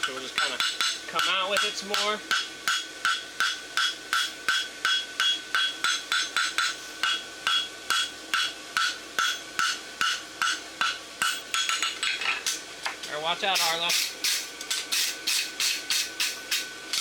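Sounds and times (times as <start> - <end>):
hammer striking steel on anvil: 0.0 - 12.6, 13.6 - 17.0.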